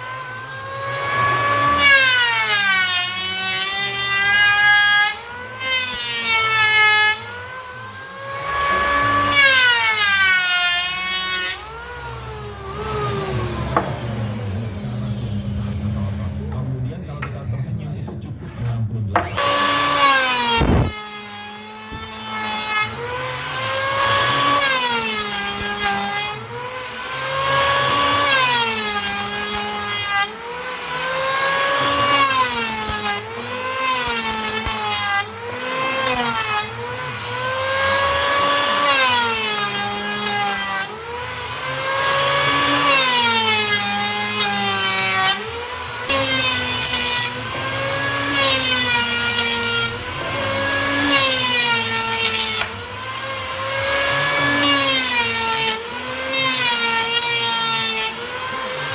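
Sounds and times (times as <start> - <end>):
power tool cutting wood: 0.0 - 17.4, 18.0 - 58.9.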